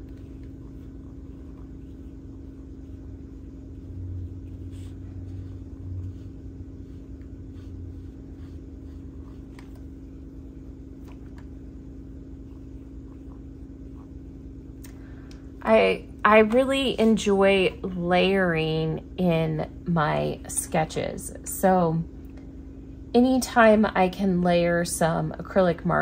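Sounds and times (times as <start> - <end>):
low rumble with hum: 0.0 - 26.0.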